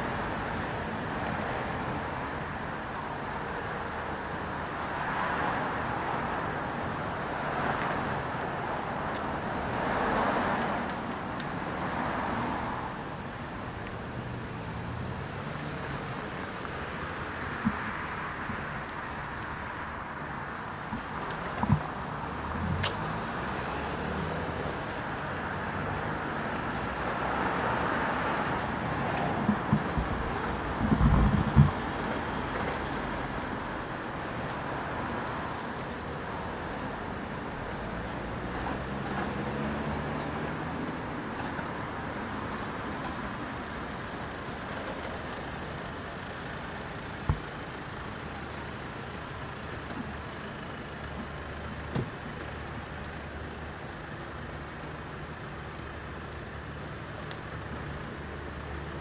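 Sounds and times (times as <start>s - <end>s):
vehicles passing on road: 0.0s - 59.0s.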